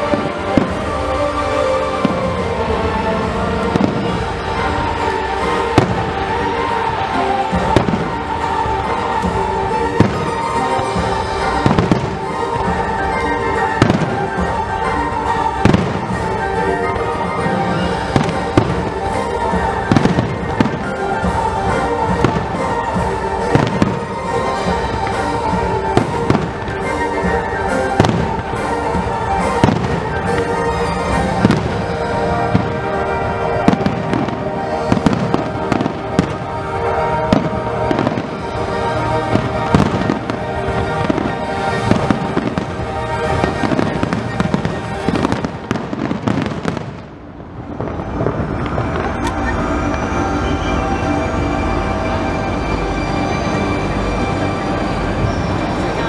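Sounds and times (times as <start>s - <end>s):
fireworks bangs: 0.0s - 56.0s
music with sustained tones: 0.0s - 56.0s.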